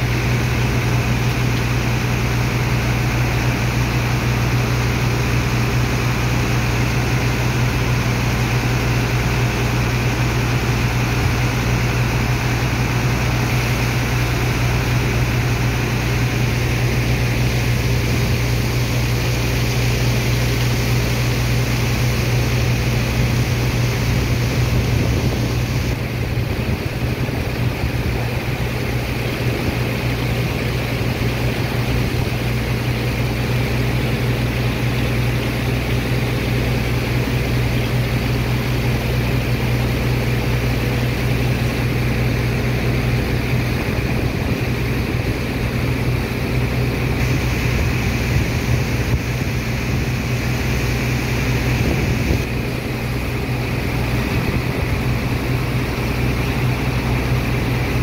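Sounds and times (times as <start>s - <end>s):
pump engine humming: 0.0s - 58.0s
water and sand slurry gushing: 0.0s - 58.0s.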